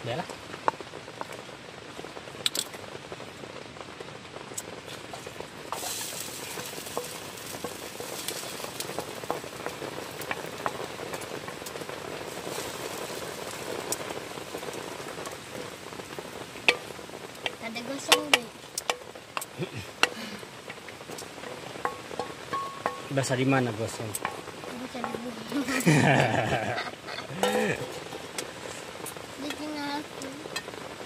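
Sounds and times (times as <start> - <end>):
rain on a tent: 0.0 - 31.0.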